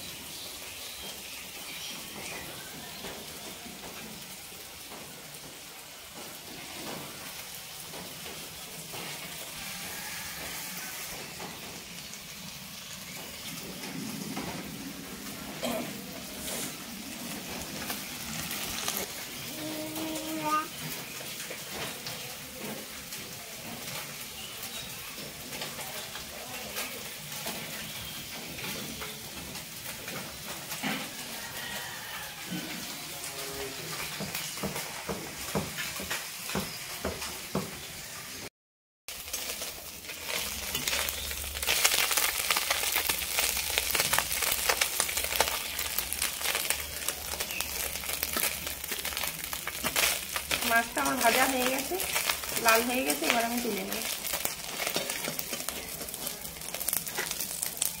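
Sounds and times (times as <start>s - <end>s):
fish sizzling in oil: 0.0s - 38.5s, 39.1s - 58.0s.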